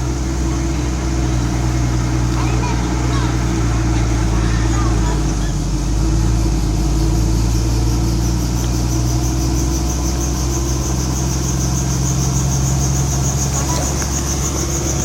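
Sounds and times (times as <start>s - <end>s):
helicopter running: 0.0s - 15.0s.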